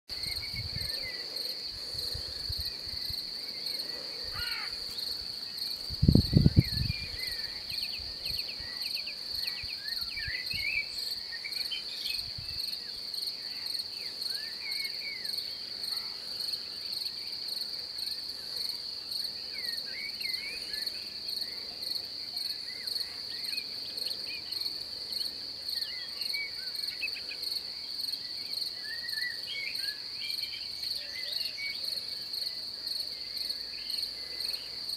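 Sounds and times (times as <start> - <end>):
high-pitched insect chorus: 0.1 - 34.9.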